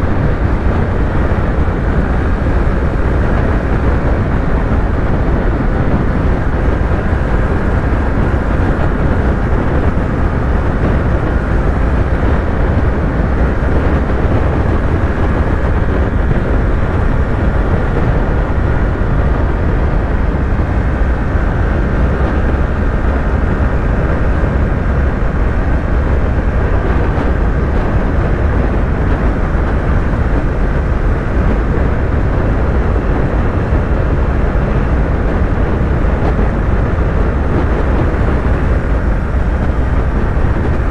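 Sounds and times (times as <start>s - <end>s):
motorcycle engine cruising: 0.0s - 40.9s
wind rush: 0.0s - 40.9s.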